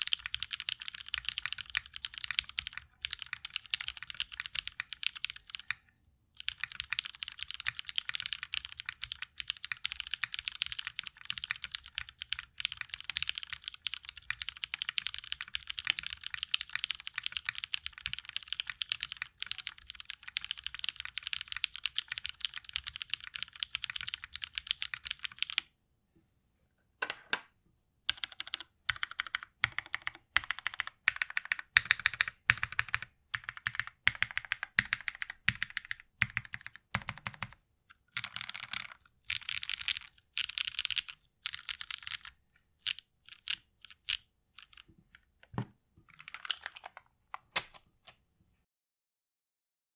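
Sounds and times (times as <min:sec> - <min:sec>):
mechanical keyboard typing: 0:00.0 - 0:05.8, 0:06.4 - 0:25.7, 0:28.1 - 0:48.2.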